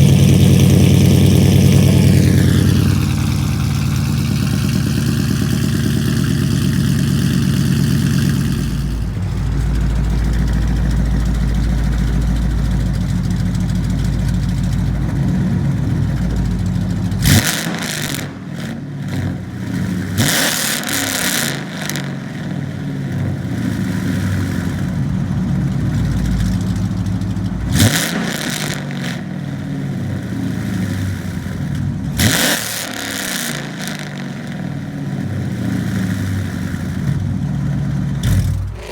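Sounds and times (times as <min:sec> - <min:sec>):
car exhaust idling and revving: 0:00.0 - 0:38.9.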